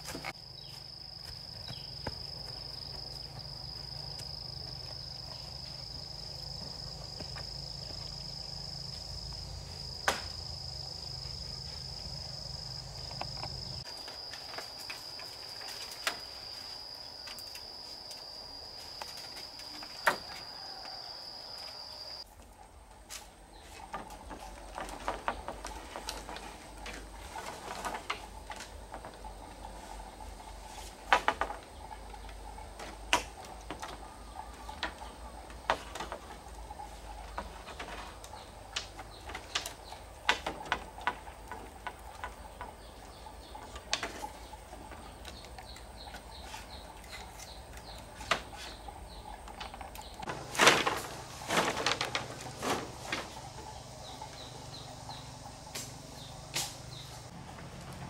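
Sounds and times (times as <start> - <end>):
insects chirring: 0.0 - 22.3, 23.4 - 57.9.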